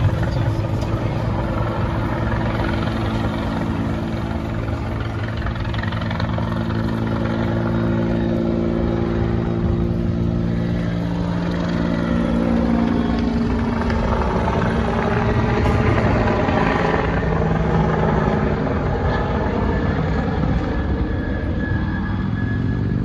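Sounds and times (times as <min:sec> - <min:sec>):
helicopter flying overhead: 0:00.0 - 0:23.0.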